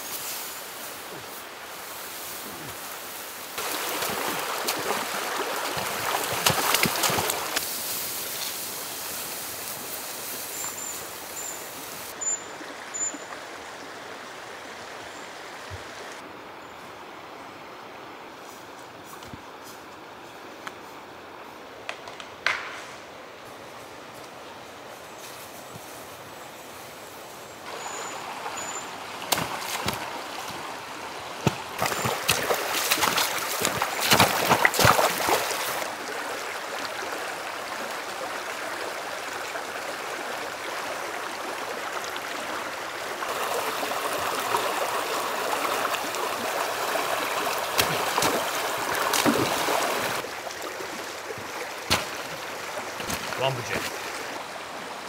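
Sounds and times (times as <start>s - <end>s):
stream water running: 0.0s - 19.3s, 23.4s - 55.0s.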